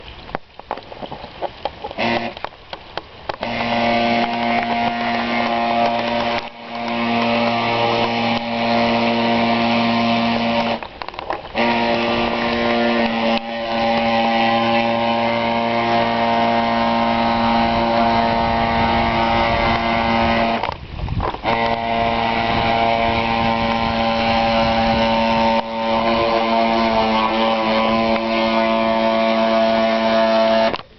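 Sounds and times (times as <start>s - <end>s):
model boat motor running: 1.8s - 2.5s, 3.3s - 30.9s.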